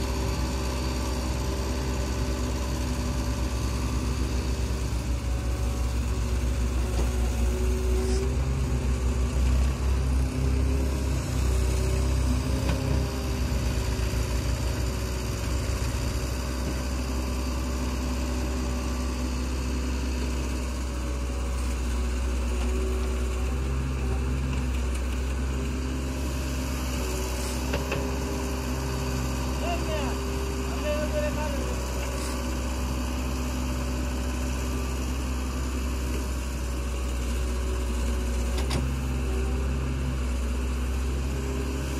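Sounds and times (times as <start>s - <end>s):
excavator digging: 0.0s - 41.9s
tractor idling: 0.0s - 41.9s.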